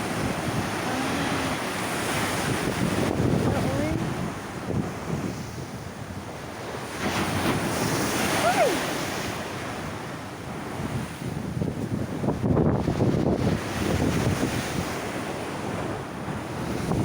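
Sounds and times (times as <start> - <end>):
waves breaking: 0.0 - 17.0
wind buffeting microphone: 0.0 - 17.0.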